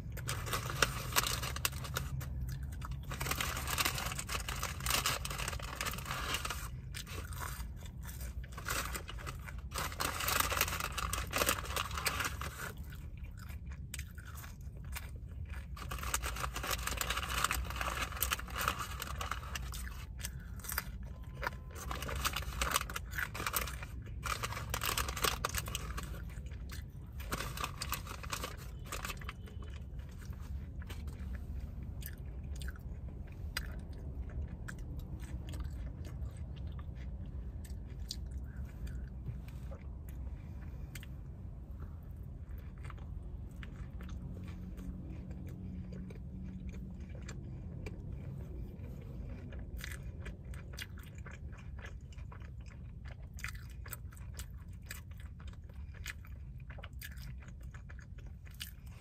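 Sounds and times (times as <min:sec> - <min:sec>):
crunchy chewing of burger: 0:00.0 - 0:59.0.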